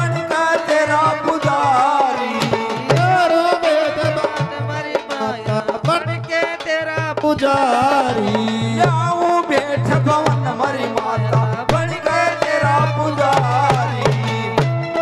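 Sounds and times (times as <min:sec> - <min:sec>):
dholak drum beat: 0:00.0 - 0:15.0
man singing into a microphone: 0:00.0 - 0:15.0.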